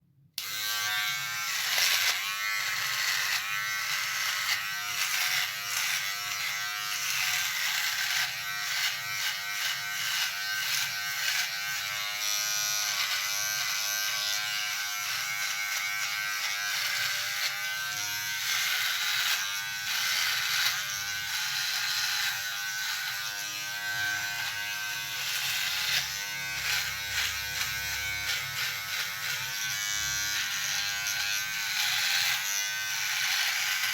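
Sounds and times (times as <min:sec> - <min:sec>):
electric shaver buzzing: 0:00.4 - 0:33.9.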